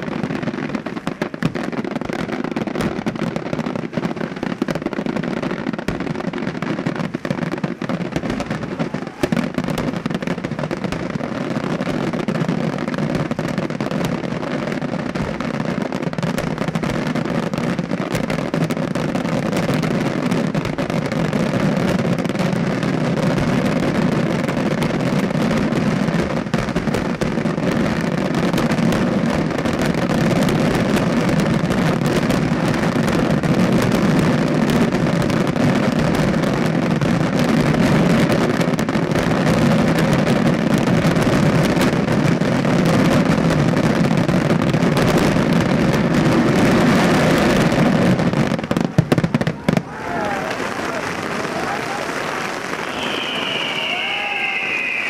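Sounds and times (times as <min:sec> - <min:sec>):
crackling firecrackers: 0:00.0 - 0:55.0.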